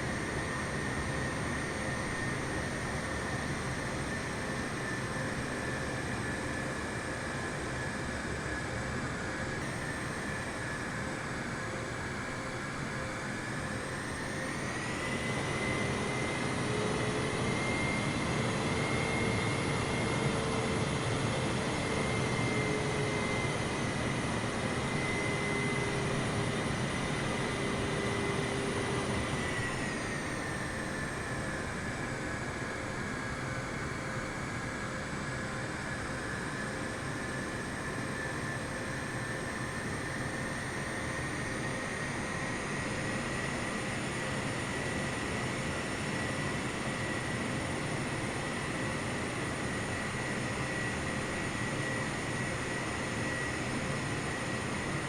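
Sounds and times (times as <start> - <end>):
jet engines rushing and whining: 0.0 - 55.0.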